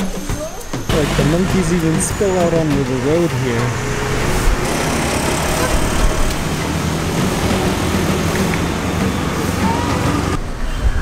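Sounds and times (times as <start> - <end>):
motor scooters passing: 0.0 - 11.0
road traffic: 0.0 - 11.0.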